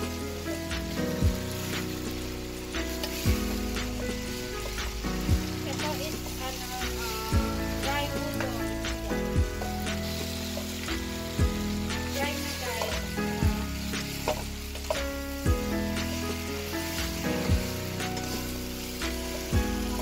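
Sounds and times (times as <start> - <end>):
background music: 0.0 - 20.0
noodles sizzling in a pan: 0.0 - 20.0
spatula stirring: 0.0 - 20.0.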